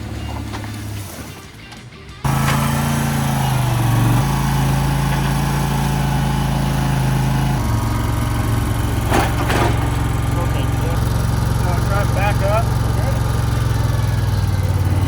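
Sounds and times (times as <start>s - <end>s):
small engine running: 2.2s - 15.0s.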